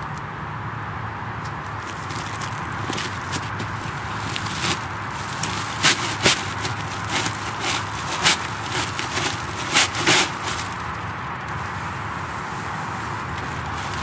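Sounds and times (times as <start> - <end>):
dry hay rustling: 1.7 - 14.0
plastic sack crinkling: 1.8 - 11.8, 12.8 - 14.0
steady background hiss: 2.6 - 14.0.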